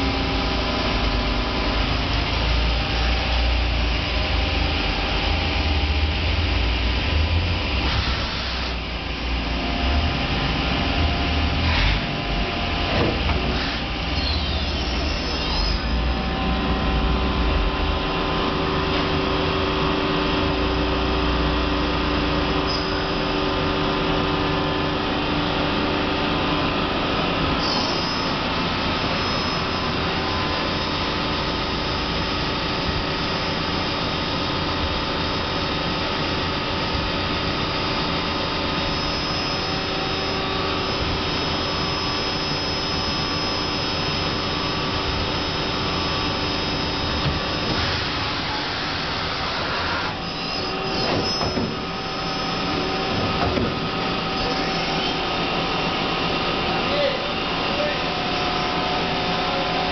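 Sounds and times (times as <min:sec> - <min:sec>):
machine hum with whining motors: 0:00.0 - 0:59.9.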